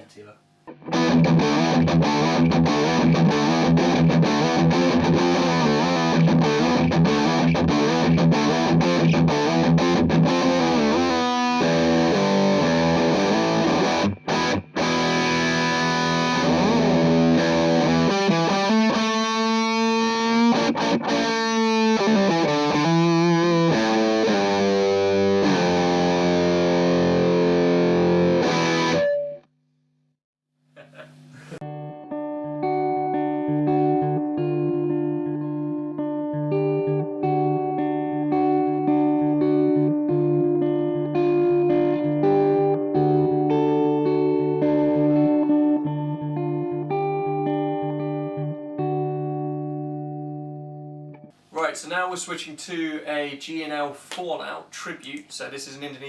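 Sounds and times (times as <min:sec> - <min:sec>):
distorted electric guitar: 0:00.7 - 0:29.4, 0:30.8 - 0:51.2.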